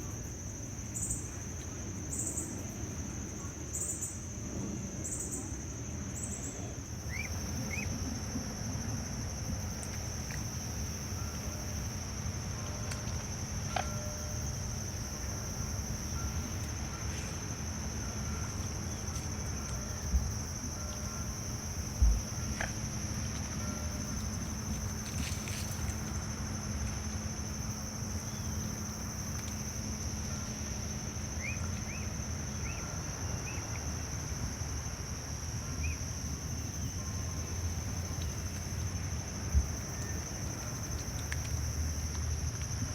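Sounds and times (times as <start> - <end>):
insects droning: 0.0 - 42.9
low outdoor rumble: 0.0 - 42.9.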